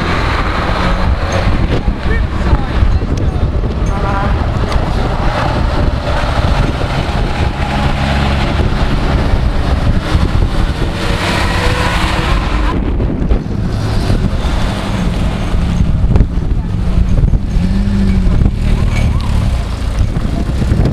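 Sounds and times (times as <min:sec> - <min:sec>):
vehicle engines driving past: 0:00.0 - 0:20.9
wind on microphone: 0:00.0 - 0:20.9.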